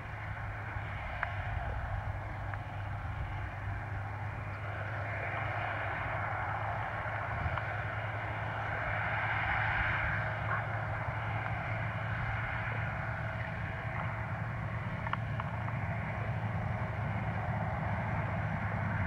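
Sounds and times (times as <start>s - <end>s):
farm machinery engine drone: 0.0s - 19.0s.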